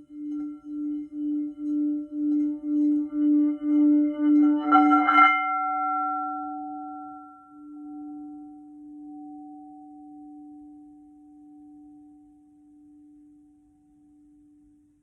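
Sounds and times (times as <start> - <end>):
sound bowl ringing: 0.0 - 14.9.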